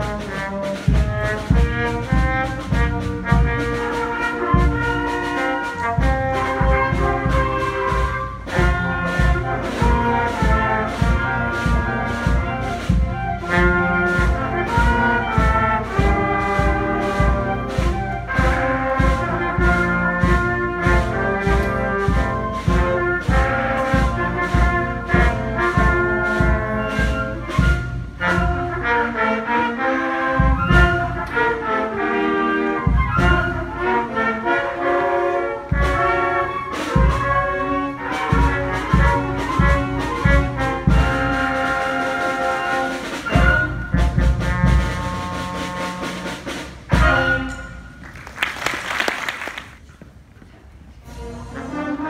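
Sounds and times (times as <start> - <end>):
concert band playing: 0.0 - 49.9.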